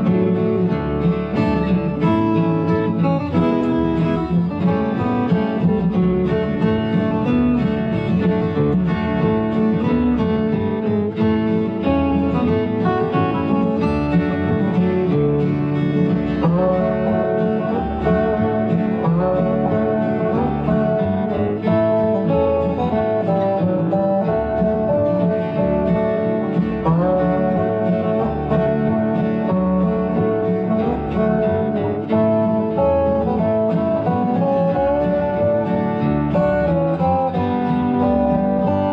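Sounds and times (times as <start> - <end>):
bluegrass acoustic guitar music: 0.0 - 38.9.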